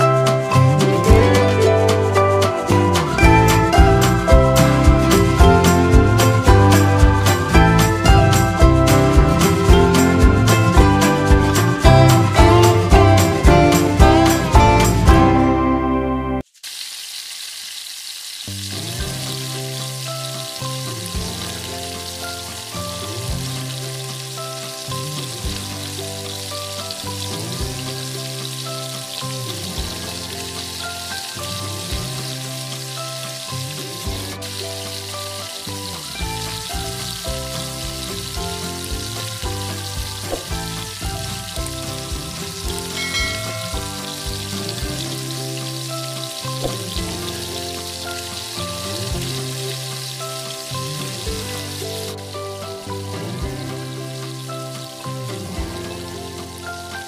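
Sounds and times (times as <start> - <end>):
chicken sizzling in hot oil: 0.0 - 15.4, 16.4 - 57.0
background music: 0.0 - 16.4, 18.6 - 57.0.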